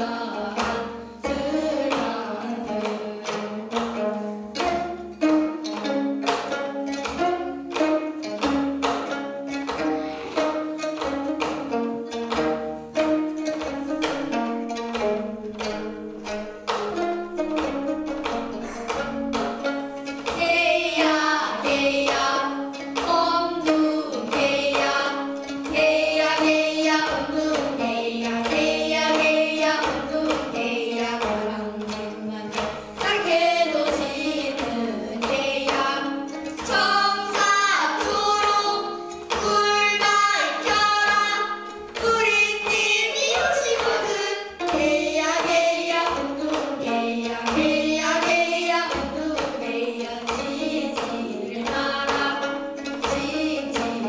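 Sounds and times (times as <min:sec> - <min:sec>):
girls singing together: 0:00.0 - 0:05.9, 0:08.3 - 0:11.7, 0:18.5 - 0:54.0
plucked zithers: 0:00.0 - 0:54.0.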